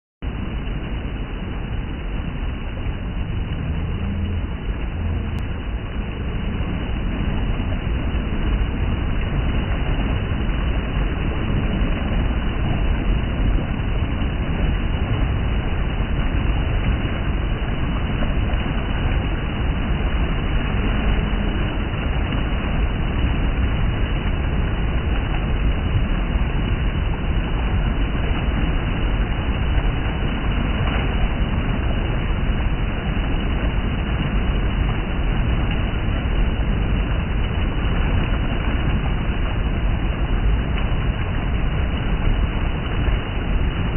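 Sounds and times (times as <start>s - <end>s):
water rushing over rocks: 0.2s - 43.9s.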